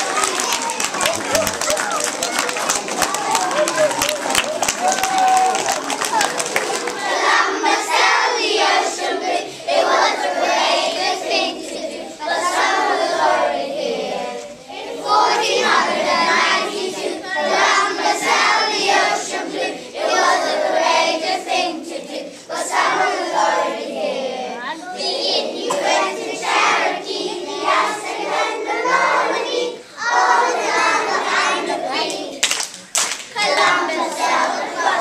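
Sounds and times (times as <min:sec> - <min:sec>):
children singing: 0:00.0 - 0:03.9, 0:05.7 - 0:32.4, 0:33.4 - 0:35.0.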